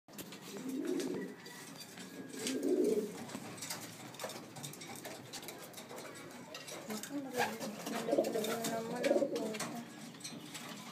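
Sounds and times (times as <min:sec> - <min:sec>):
pigeons cooing: 0:00.2 - 0:10.9.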